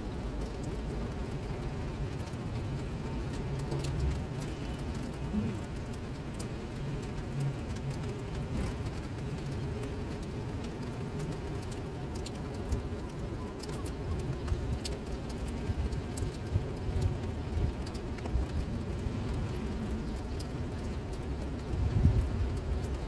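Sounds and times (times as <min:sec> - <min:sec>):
rain falling into water: 0:00.0 - 0:23.0.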